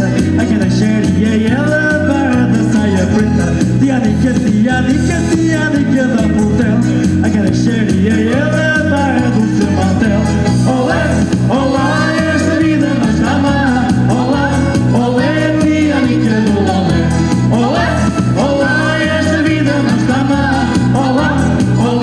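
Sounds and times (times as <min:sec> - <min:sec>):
live band music: 0:00.0 - 0:22.0.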